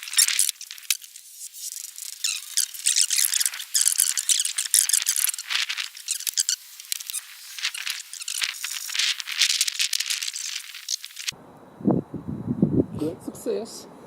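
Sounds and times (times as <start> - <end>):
squeaky rubbing and scraping: 0.0 - 11.3.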